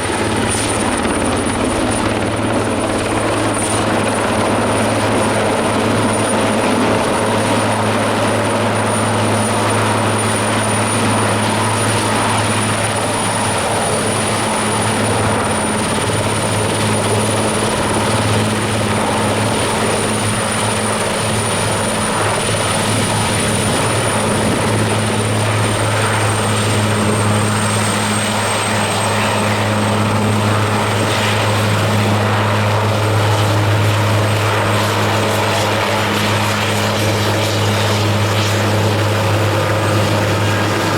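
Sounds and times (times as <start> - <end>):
helicopter rotor hum: 0.0 - 40.9.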